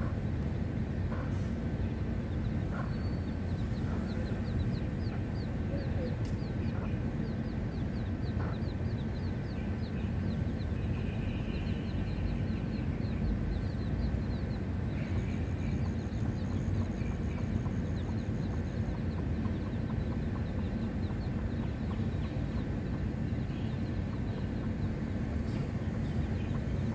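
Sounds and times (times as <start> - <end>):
low background rumble: 0.0 - 26.9
chicks peeping: 1.9 - 26.9.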